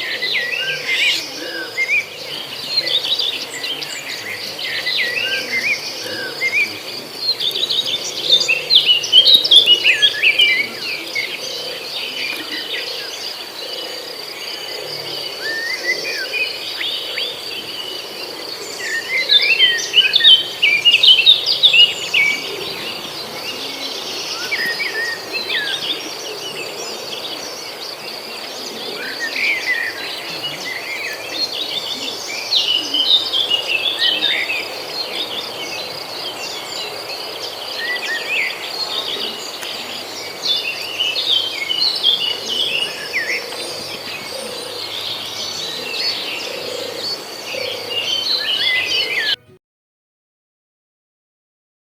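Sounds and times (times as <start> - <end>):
bird chirping: 0.0 - 49.6.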